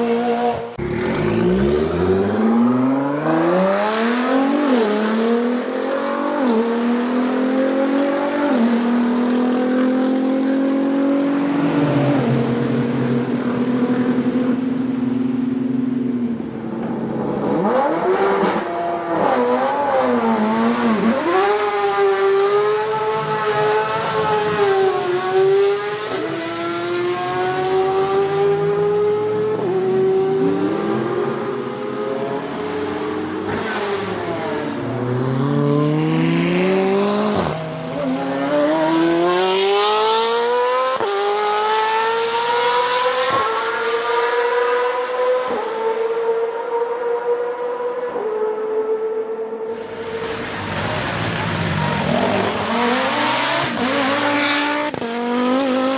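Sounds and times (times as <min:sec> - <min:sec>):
car engine accelerating through gears: 0:00.0 - 0:15.0, 0:16.4 - 0:55.9.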